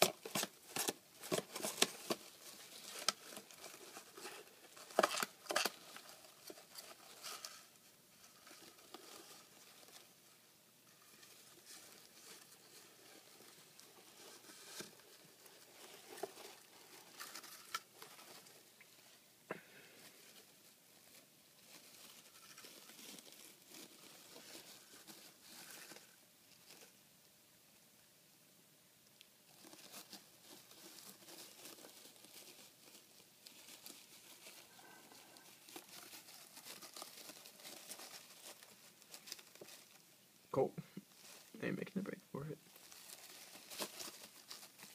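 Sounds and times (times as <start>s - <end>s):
hedgehog rustling in wood shavings: 0.0s - 27.0s, 29.4s - 41.6s, 42.6s - 44.9s.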